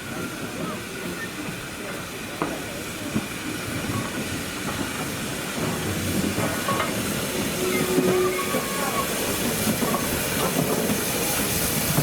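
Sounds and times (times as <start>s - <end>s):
hiss: 0.0s - 12.0s
train wheels rumbling on rail: 0.0s - 12.0s.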